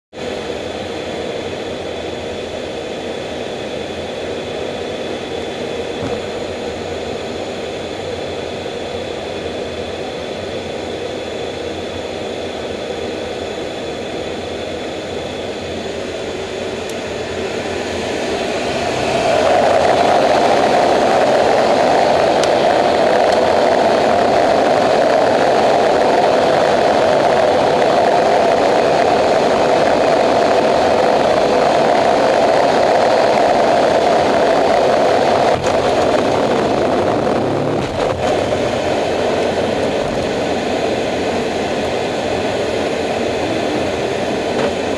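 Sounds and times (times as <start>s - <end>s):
jet engines running: 0.1s - 44.9s.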